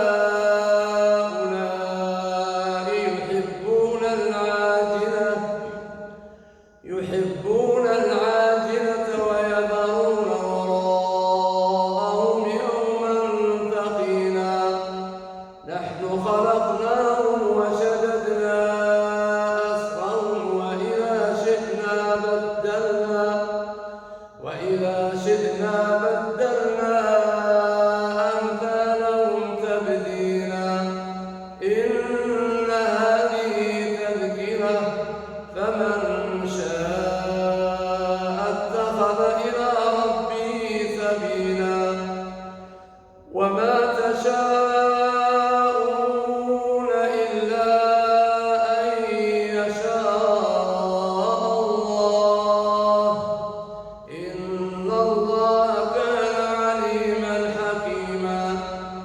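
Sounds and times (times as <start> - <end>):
man reciting melodically: 0.0 - 59.0.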